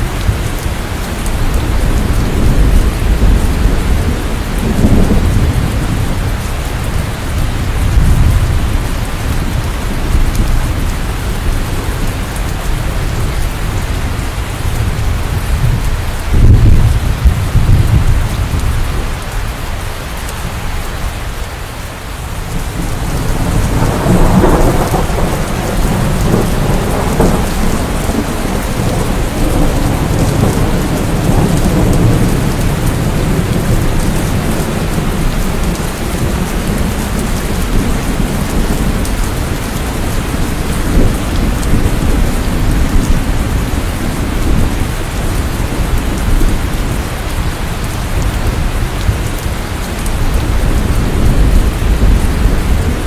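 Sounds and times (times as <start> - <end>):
rolling thunder: 0.0 - 19.4, 22.4 - 53.0
steady rain: 0.0 - 53.0.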